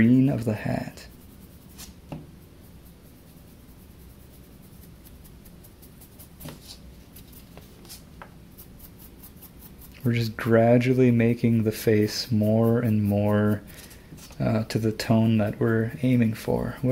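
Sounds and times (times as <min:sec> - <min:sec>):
low room hum: 0:00.0 - 0:16.9
paintbrush scratchy strokes: 0:00.0 - 0:16.9.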